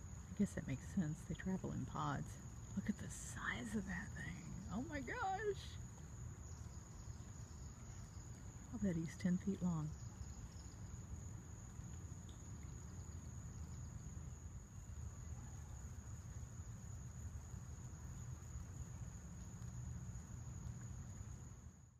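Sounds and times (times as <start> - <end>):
crickets droning: 0.0 - 21.9
low steady rumble: 0.0 - 21.9.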